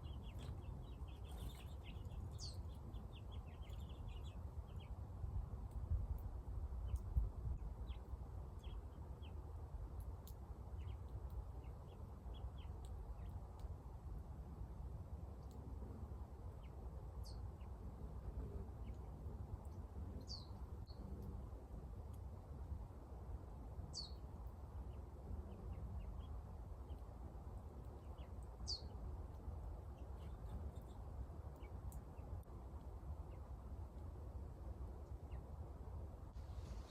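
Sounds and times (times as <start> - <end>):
low outdoor rumble: 0.0 - 36.9
small birds chirping: 0.0 - 36.9.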